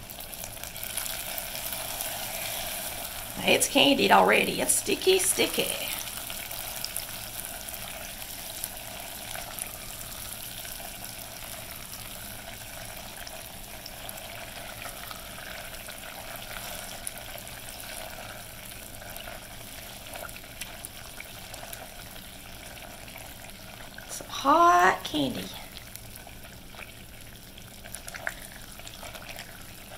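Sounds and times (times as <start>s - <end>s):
sugar syrup sizzling: 0.0s - 29.9s.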